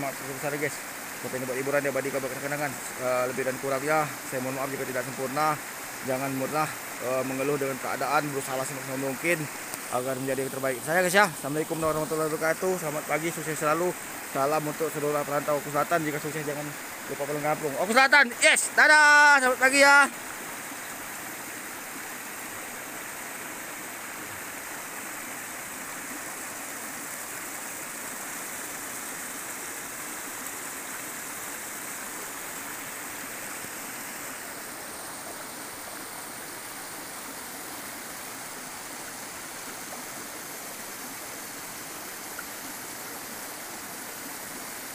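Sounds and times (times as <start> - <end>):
river flowing over rocks: 0.0 - 44.9.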